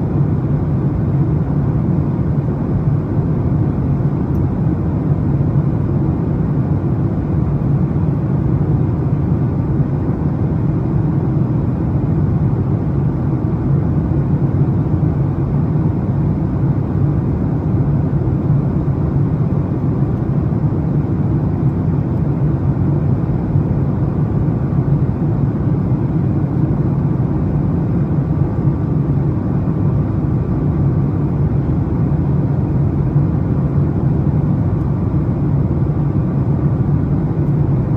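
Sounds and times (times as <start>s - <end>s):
airliner cabin rumble: 0.0s - 37.9s
faint hum: 0.0s - 37.9s.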